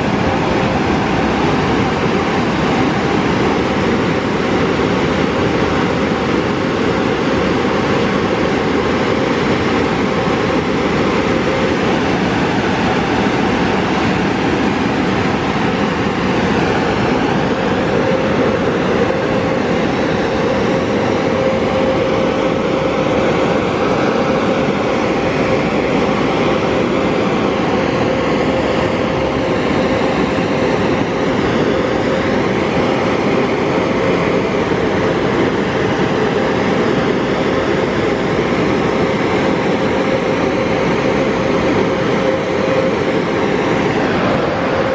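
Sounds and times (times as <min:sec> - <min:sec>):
air dryers blowing: 0:00.0 - 0:44.9
steady hum: 0:00.0 - 0:44.9.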